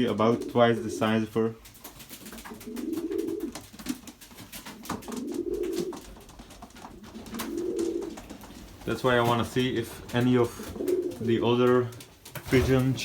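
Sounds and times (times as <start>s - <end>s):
pigeon cooing: 0.0s - 12.7s.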